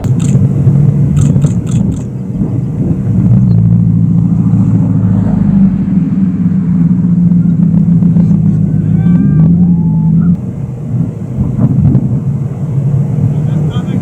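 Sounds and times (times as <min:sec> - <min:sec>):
car engine and road drone: 0:00.0 - 0:14.0.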